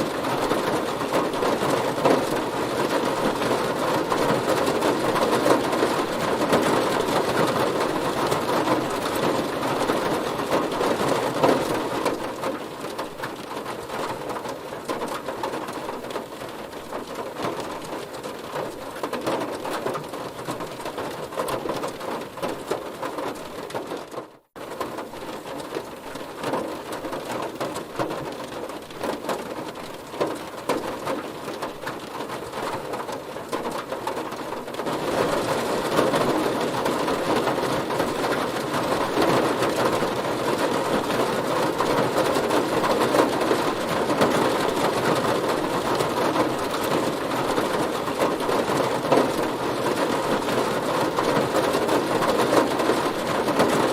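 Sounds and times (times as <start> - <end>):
heavy rain pattering on a car: 0.0 - 53.9.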